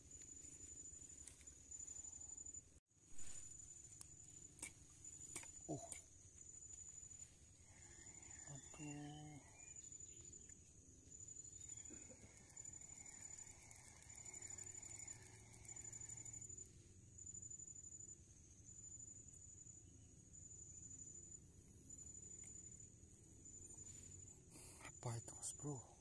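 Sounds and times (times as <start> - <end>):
insect chirping trill: 0.0 - 26.0.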